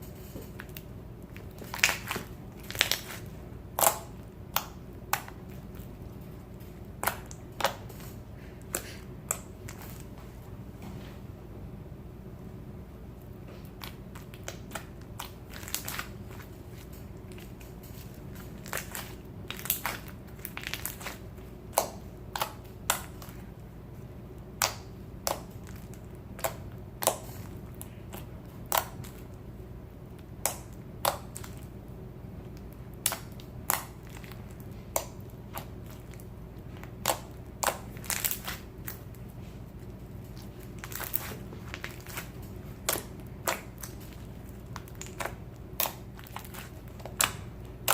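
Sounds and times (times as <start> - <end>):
crunchy slime squished by hand: 0.1 - 10.2, 13.1 - 47.9.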